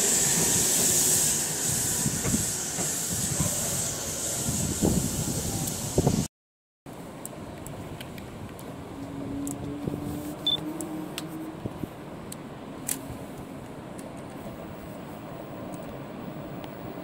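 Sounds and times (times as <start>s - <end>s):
city background noise: 0.0s - 6.3s, 6.9s - 17.0s.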